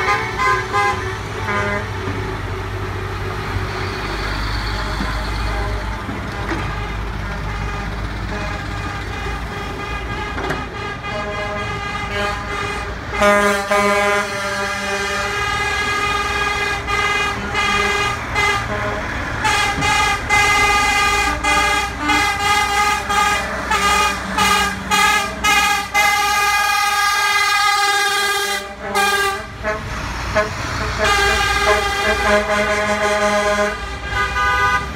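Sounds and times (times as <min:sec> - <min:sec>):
truck air horn blast: 0:00.0 - 0:02.4, 0:04.0 - 0:34.9
diesel trucks rolling past: 0:00.0 - 0:34.9.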